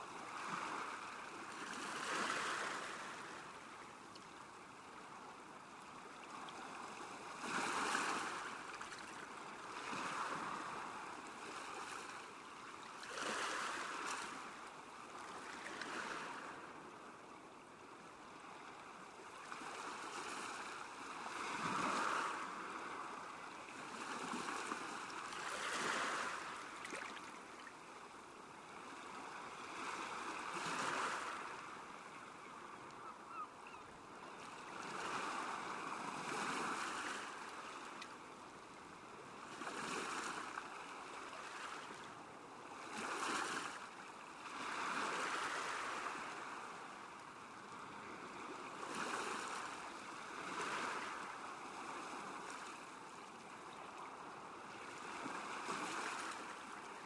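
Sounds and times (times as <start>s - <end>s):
small waves lapping shore: 0.0s - 57.0s.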